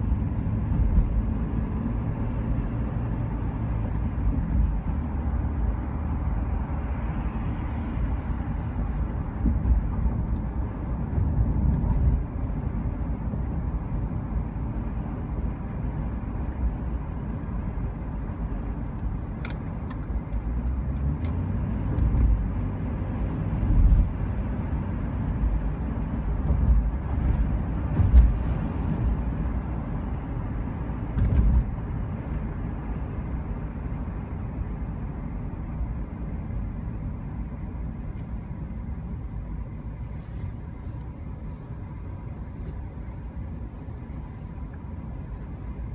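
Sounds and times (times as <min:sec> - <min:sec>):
vehicle driving rumble: 0:00.0 - 0:45.9.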